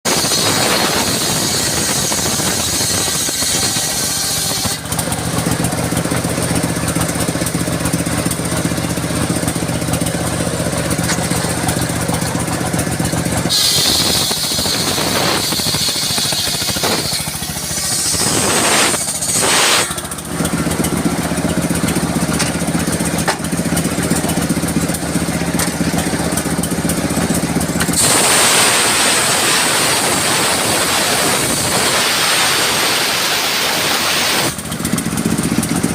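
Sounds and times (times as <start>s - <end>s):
power saw cutting wood: 0.0s - 35.9s.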